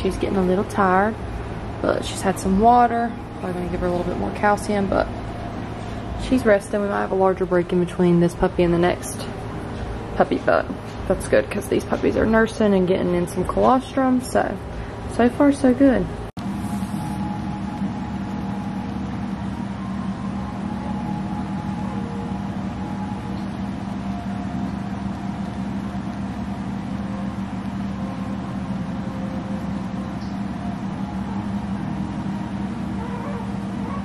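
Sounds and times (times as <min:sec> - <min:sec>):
mechanical hum with hiss: 0:00.0 - 0:34.0.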